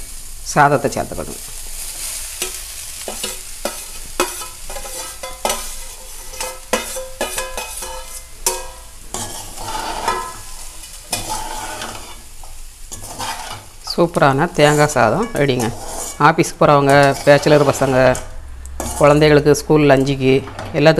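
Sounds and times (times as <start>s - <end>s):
metal spatula scraping pan: 2.0s - 20.4s.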